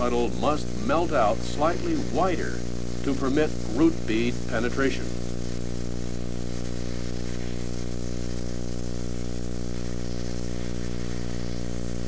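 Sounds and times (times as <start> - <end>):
loud electrical hum: 0.0 - 12.0
welding arc crackling and hissing: 0.0 - 12.0.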